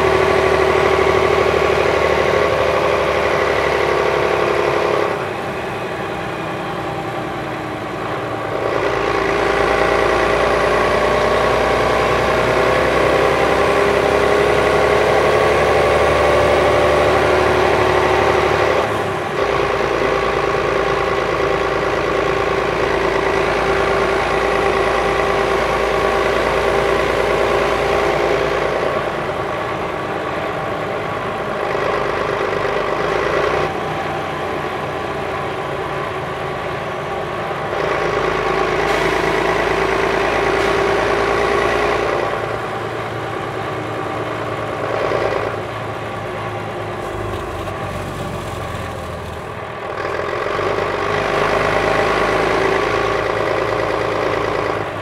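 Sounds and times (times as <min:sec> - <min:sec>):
diesel bus engine idling: 0:00.0 - 0:55.0.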